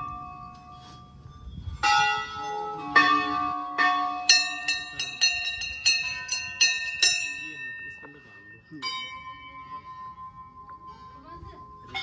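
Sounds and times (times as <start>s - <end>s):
brass bells ringing: 0.0s - 12.0s.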